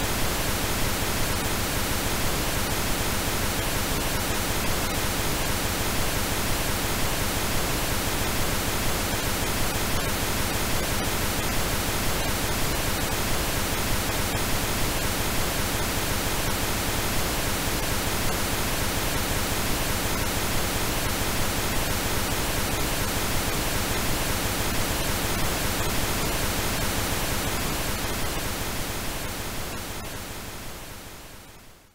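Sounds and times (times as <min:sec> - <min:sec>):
steady pink noise hiss: 0:00.0 - 0:31.9.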